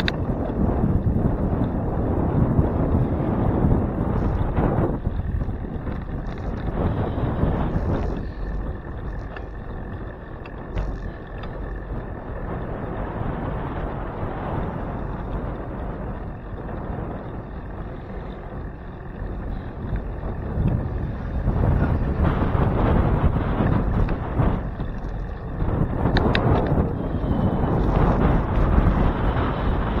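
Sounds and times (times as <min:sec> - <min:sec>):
road noise: 0:00.0 - 0:30.0
wind buffeting microphone: 0:00.0 - 0:30.0.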